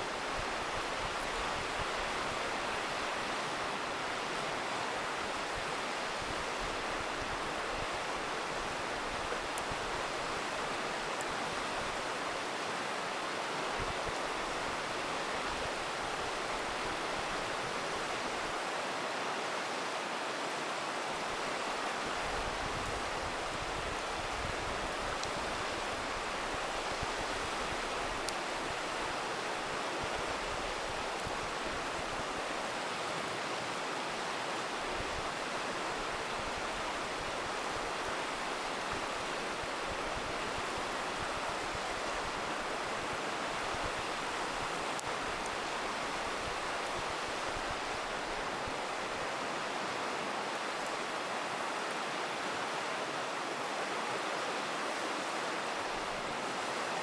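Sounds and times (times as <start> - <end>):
campfire crackles: 0.0 - 57.0
river rushing: 0.0 - 57.0.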